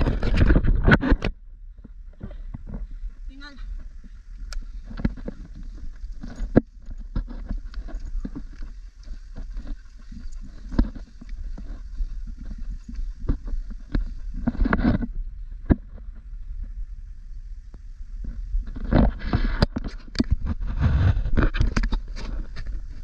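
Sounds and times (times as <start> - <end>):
footsteps on dirt path: 0.0 - 16.9, 17.8 - 23.0
wind rumble on microphone: 0.0 - 23.0.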